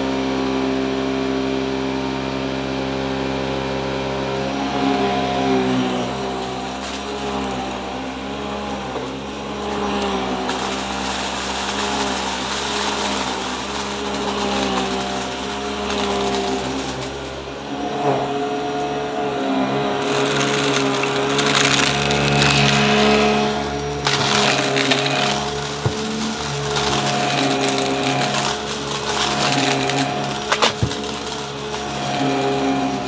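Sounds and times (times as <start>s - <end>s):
vacuum cleaner motor humming: 4.2s - 33.0s.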